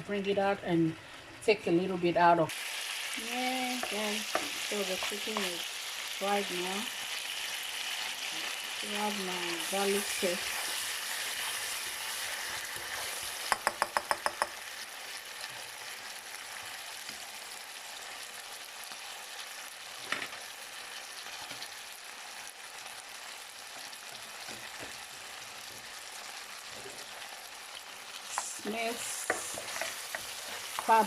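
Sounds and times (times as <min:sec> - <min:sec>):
chicken sizzling in hot oil: 0:02.5 - 0:31.0.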